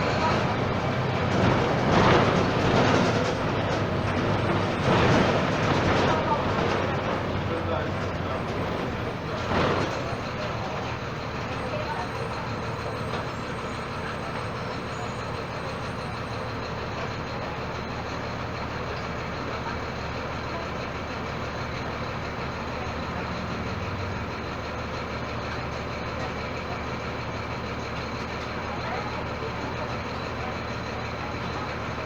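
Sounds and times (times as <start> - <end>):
bus engine running: 0.0 - 32.0
road noise: 0.0 - 32.0.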